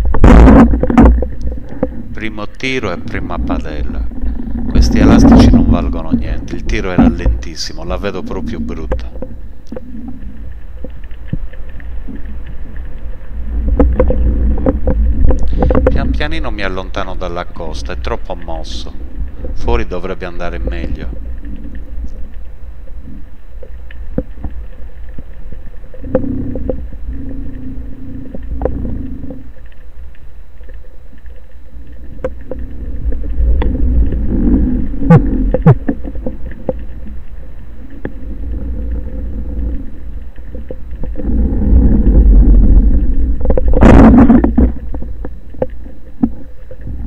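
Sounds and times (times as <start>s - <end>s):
small underwater clicks: 0.0s - 47.0s
underwater water rumble: 0.0s - 47.0s.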